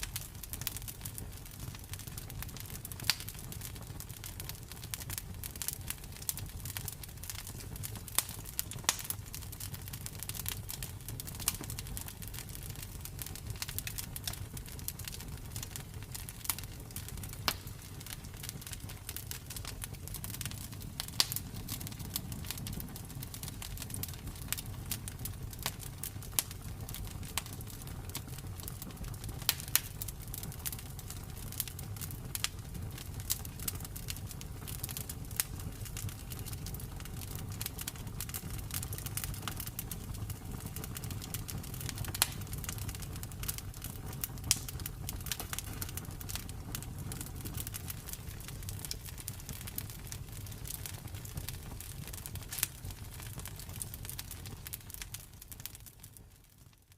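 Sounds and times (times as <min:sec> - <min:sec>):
low rumble of flames: 0:00.0 - 0:56.9
wood crackling and popping: 0:00.0 - 0:56.9.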